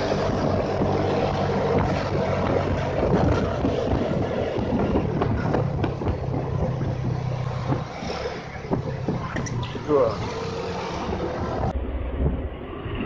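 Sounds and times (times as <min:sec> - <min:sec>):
motorcycle engine cruising: 0:00.0 - 0:11.8
passing traffic: 0:00.0 - 0:13.0
wind noise on microphone: 0:00.0 - 0:13.0.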